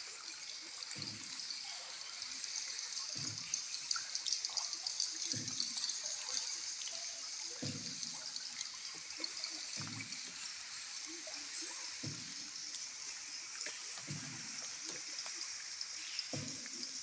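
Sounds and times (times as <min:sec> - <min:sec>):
trickling and dripping water: 0:00.0 - 0:17.0.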